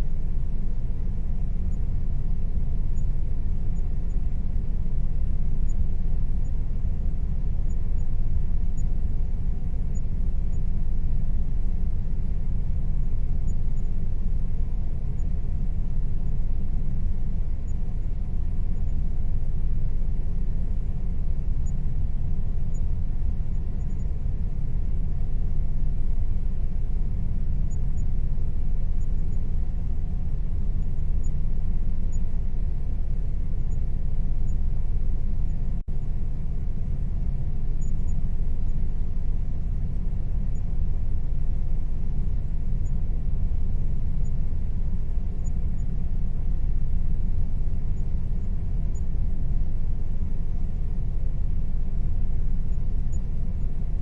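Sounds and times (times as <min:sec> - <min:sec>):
air conditioner running: 0:00.0 - 0:54.0
faint constant tone: 0:00.0 - 0:54.0.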